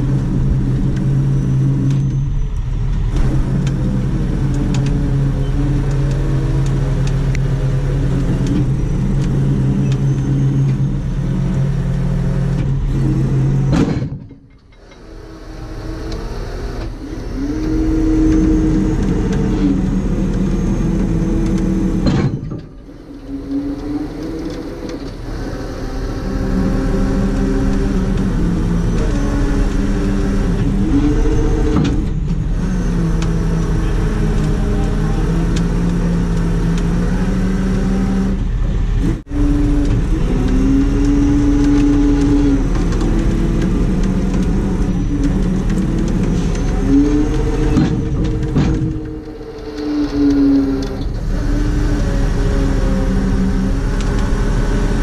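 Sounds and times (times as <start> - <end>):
diesel truck engine revving: 0.0 - 14.2, 14.8 - 55.0.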